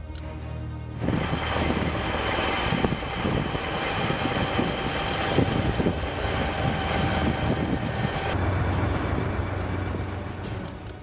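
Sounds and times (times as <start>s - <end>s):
military vehicle engines whining: 0.0s - 11.0s.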